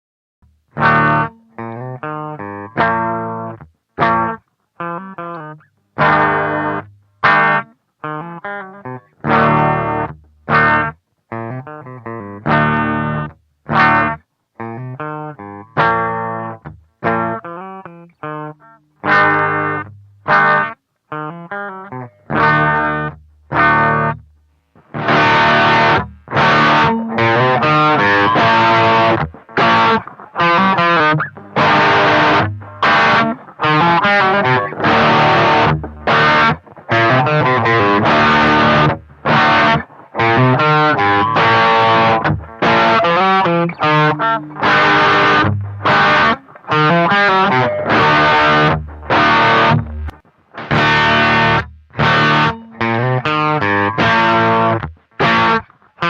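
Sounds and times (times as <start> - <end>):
electric guitar chords: 0.4 - 56.0.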